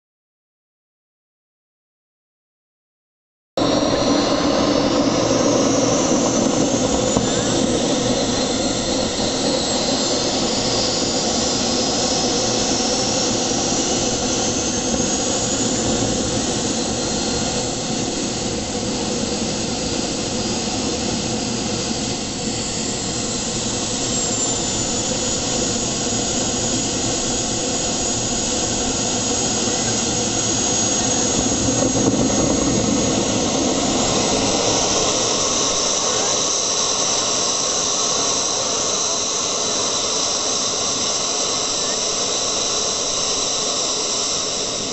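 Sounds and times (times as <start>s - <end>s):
model jet turbine whine: 3.6s - 44.9s.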